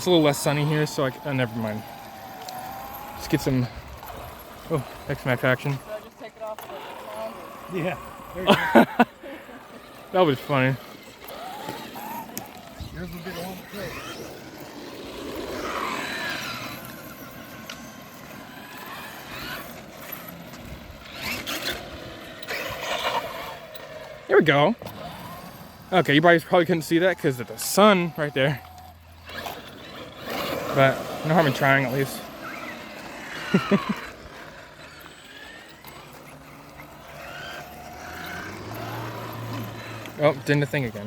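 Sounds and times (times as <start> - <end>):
electric motor whine: 0.0 - 41.0
tyre noise on asphalt: 0.0 - 41.0.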